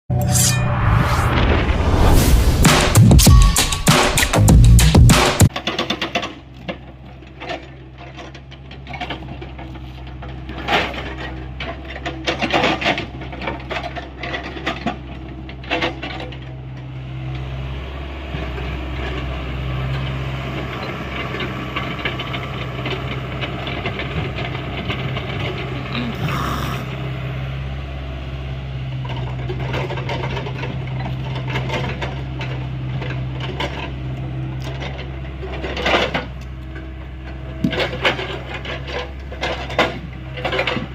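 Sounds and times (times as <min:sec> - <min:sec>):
excavator engine running: 0:02.2 - 0:40.9.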